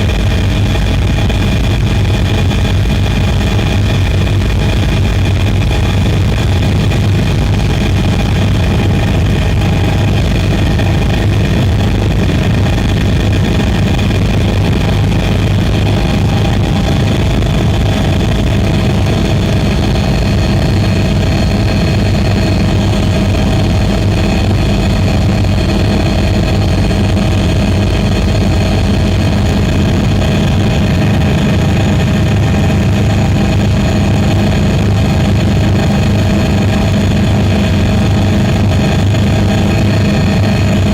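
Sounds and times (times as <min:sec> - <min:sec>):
drone motors humming: 0:00.0 - 0:40.9.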